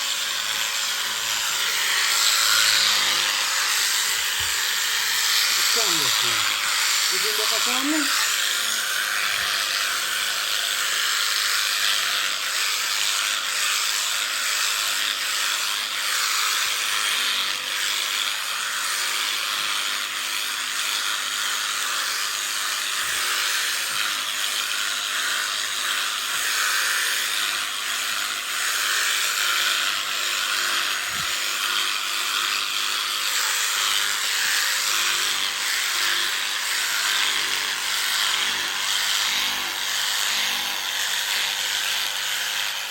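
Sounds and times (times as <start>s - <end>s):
electric clippers buzzing: 0.0s - 42.9s.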